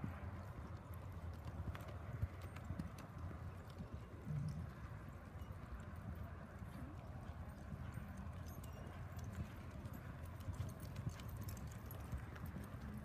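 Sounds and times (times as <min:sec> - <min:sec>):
horse hoofbeats on dirt: 0:00.0 - 0:13.0.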